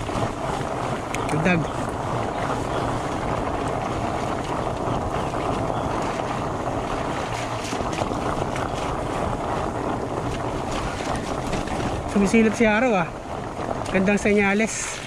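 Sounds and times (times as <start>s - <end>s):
bike tyres rumbling on mud: 0.0s - 15.0s
wind on microphone: 0.0s - 15.0s.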